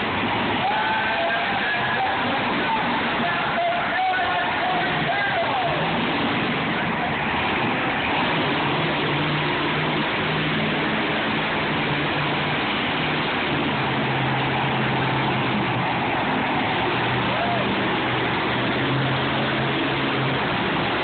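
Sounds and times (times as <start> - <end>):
constant noise: 0.0 - 21.0
truck engine running: 0.0 - 21.0.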